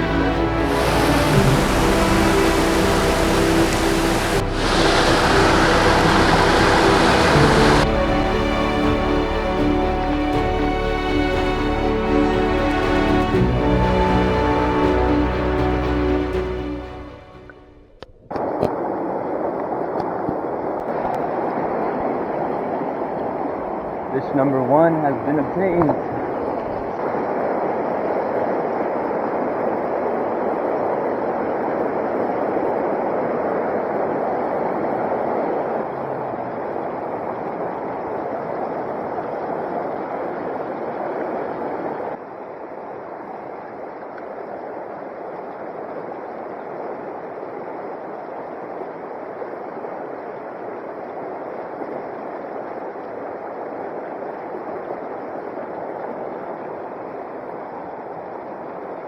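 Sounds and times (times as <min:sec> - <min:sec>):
rushing creek water: 0:00.0 - 0:17.6, 0:18.3 - 0:59.0.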